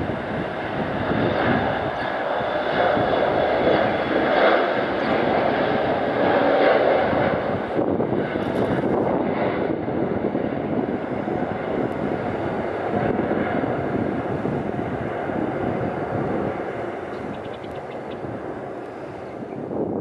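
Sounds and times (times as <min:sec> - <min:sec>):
jet engines rushing drone: 0:00.0 - 0:20.0.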